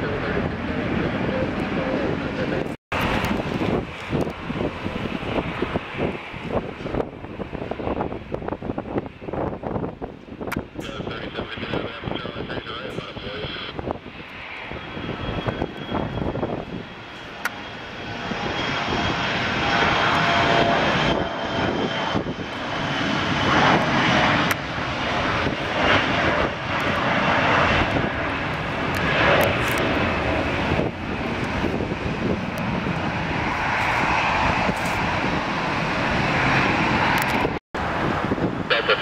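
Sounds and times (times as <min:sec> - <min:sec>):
airliner engines passing: 0:00.0 - 0:39.0.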